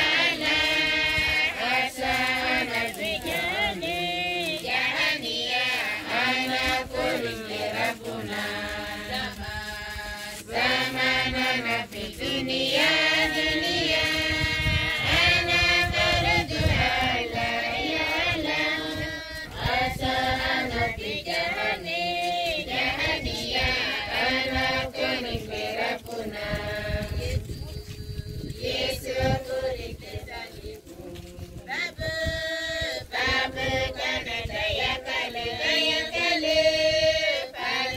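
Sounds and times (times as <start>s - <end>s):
group singing a hymn: 0.0s - 37.9s.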